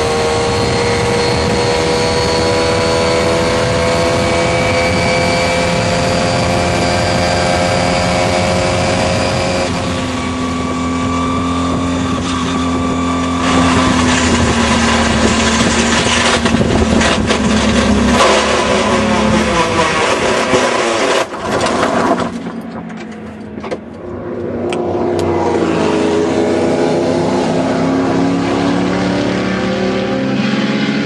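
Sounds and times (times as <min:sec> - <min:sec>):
racing car engine: 0:00.0 - 0:31.0.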